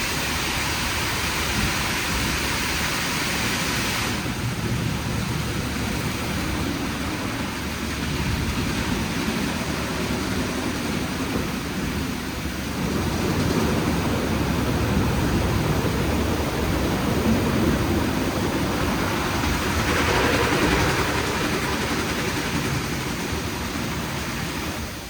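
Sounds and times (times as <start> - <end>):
car wash water and machinery: 0.0 - 25.0.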